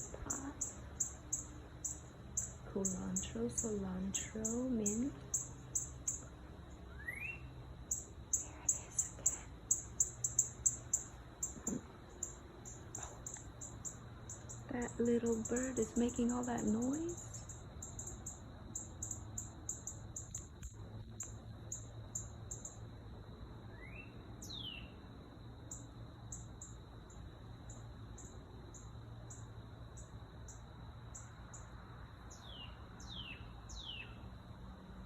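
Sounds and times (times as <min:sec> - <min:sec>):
songbird chirping: 0:00.0 - 0:22.8, 0:23.7 - 0:34.8.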